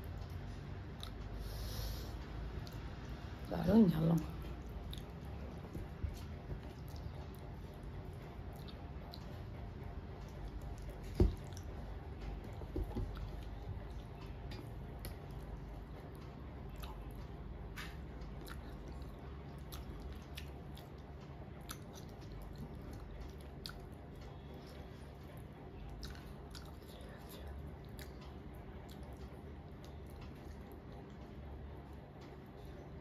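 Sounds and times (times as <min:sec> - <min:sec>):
soft chewing: 0:00.0 - 0:33.0.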